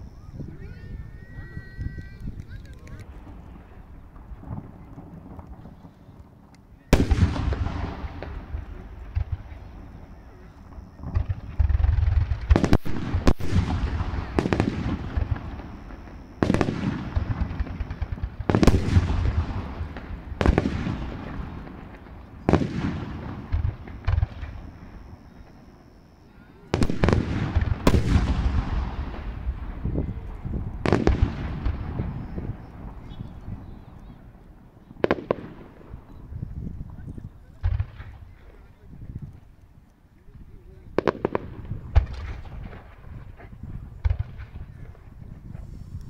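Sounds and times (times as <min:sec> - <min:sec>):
firework shells booming: 0:02.3 - 0:33.9, 0:34.9 - 0:36.5, 0:37.6 - 0:38.6, 0:40.9 - 0:45.7.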